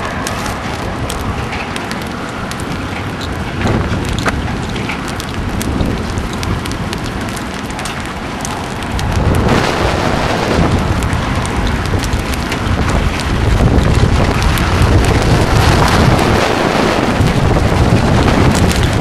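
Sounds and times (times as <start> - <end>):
hail pelting down: 0.0 - 19.0
hailstones clicking on hard surfaces: 0.0 - 19.0
wind buffeting microphone: 0.0 - 19.0.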